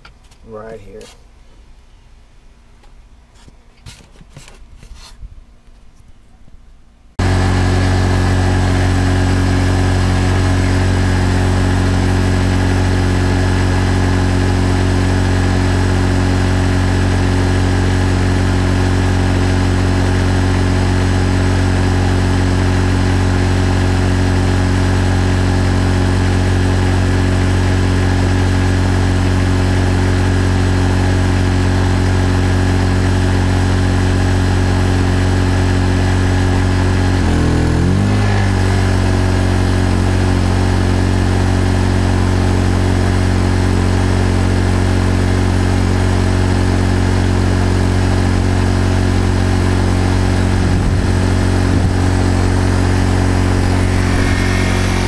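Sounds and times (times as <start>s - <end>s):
generator engine running: 7.2s - 55.0s.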